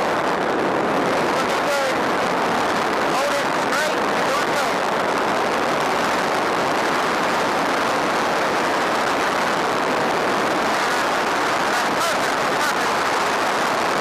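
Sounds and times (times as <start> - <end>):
aircraft engine noise: 0.0 - 14.0
wind rushing: 0.0 - 14.0.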